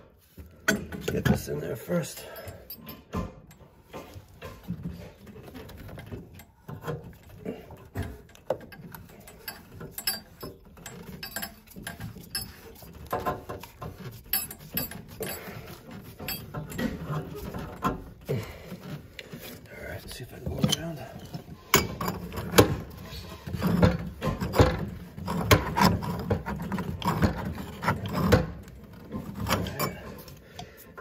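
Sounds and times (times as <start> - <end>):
plastic fitting clicking and scraping: 2.4 - 31.0.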